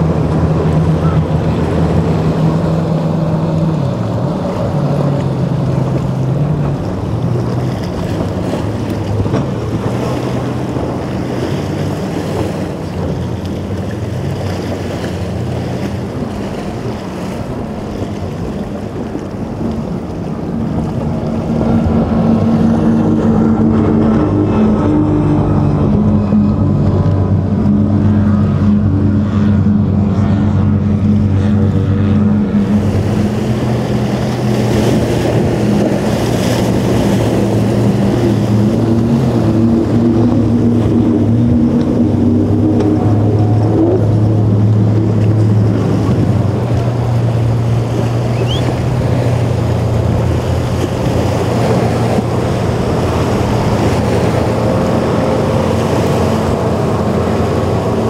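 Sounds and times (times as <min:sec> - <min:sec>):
motorboat engine drone: 0:00.0 - 0:58.0
waves splashing: 0:00.0 - 0:58.0
wind buffeting microphone: 0:00.0 - 0:58.0.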